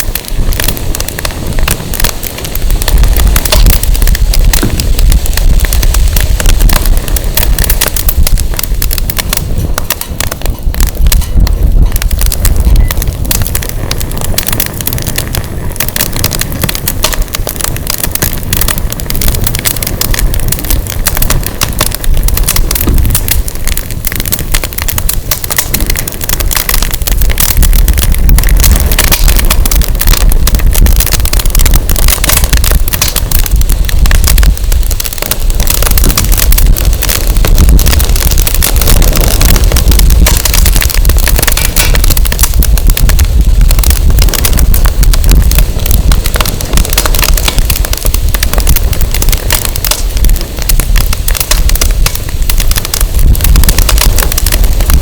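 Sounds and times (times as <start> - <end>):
firewood crackling and popping: 0.0 - 55.0
wind rumbling on microphone: 0.0 - 55.0.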